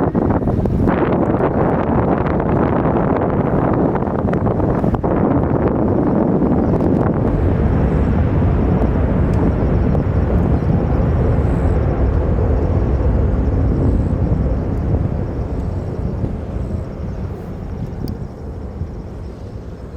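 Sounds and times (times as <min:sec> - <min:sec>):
jet engines roaring: 0:00.0 - 0:19.9.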